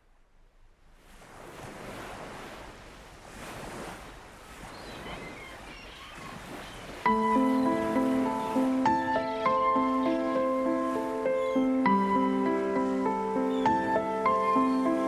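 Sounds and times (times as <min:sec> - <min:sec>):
sea surf washing in: 0:00.9 - 0:15.0.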